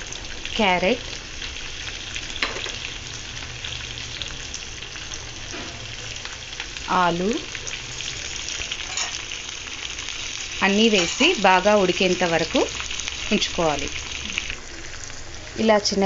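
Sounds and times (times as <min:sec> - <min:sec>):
oil sizzling in a frying pan: 0:00.0 - 0:16.0.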